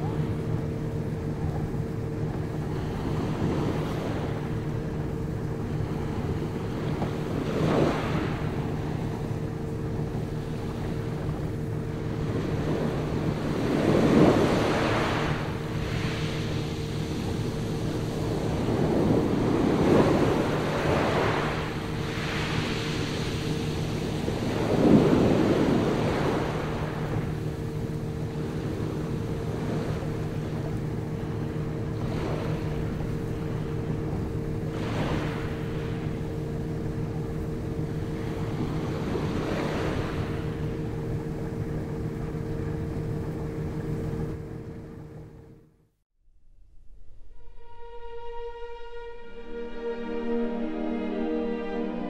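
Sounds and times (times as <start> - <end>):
wind and water rushing: 0.0 - 45.6
boat engine humming: 0.0 - 46.0, 47.3 - 52.0.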